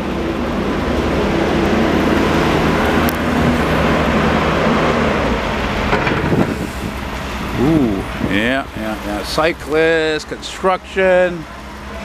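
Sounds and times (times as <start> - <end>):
truck diesel engine droning: 0.0 - 12.0
tyre noise on wet pavement: 0.0 - 12.0.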